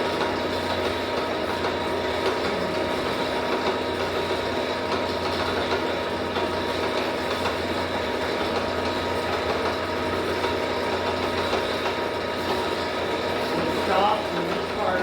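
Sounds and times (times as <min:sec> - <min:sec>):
motor-driven tyre bender humming: 0:00.0 - 0:15.0.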